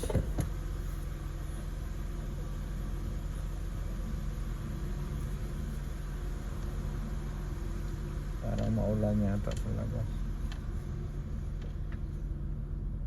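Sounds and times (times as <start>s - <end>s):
car engine humming from inside: 0.0s - 13.0s.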